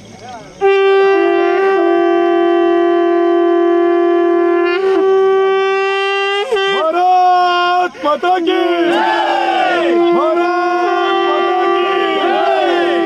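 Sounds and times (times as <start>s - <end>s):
conch shell blasts: 0.6s - 7.6s, 8.5s - 13.0s.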